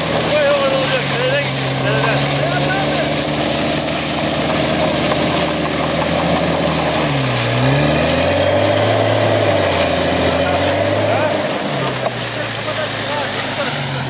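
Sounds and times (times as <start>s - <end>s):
suv engine revving: 0.0s - 14.0s
wheels spinning in snow: 0.0s - 14.0s.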